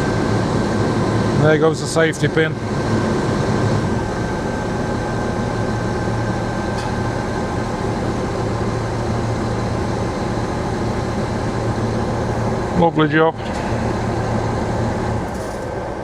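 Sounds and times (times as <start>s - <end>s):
crane diesel engine droning: 0.0s - 16.0s.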